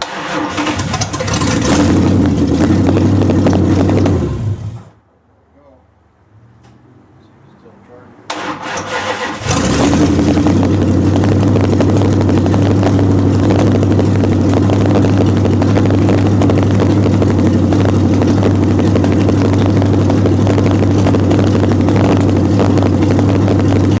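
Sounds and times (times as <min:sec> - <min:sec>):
car engine at fast idle: 0:00.0 - 0:04.9, 0:08.4 - 0:24.0.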